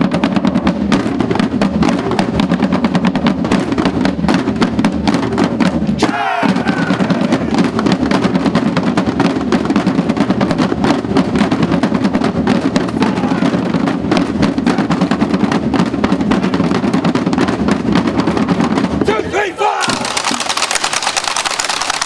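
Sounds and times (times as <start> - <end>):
marching snare drums: 0.0 - 22.0.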